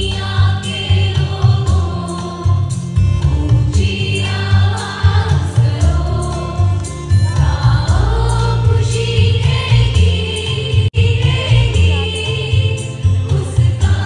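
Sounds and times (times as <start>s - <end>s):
boys' choir singing: 0.0s - 2.7s, 3.4s - 14.0s
musical accompaniment with bass: 0.0s - 14.0s.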